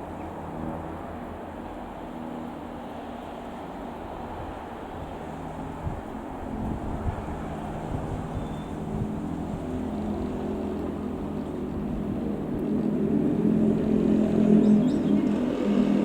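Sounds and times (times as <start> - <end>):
light aircraft engine running: 0.0 - 16.0.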